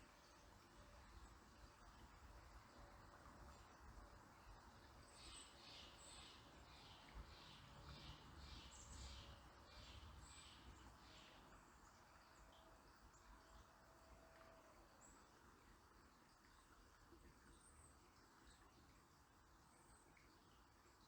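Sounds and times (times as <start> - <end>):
flowing river water: 0.0 - 21.0.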